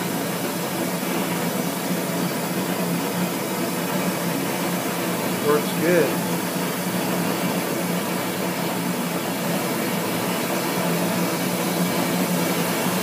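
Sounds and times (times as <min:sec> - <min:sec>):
roaring gas burner: 0:00.0 - 0:13.0.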